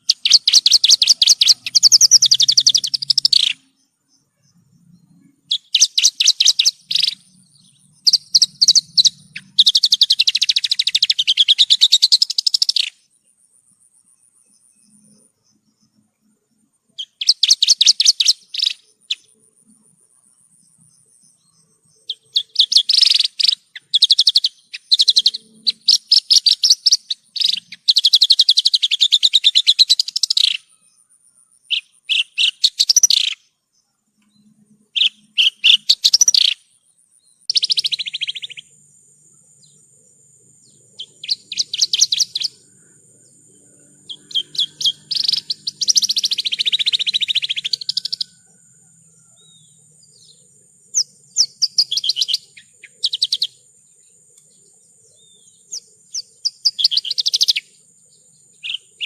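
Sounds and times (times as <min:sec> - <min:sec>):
bird singing buzzy trills: 0:00.0 - 0:59.0.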